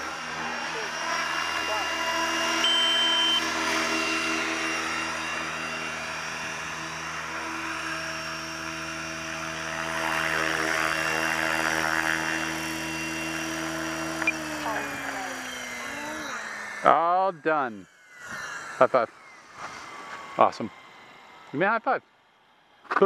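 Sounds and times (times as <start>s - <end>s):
rc helicopter rotor whining: 0.0s - 23.0s.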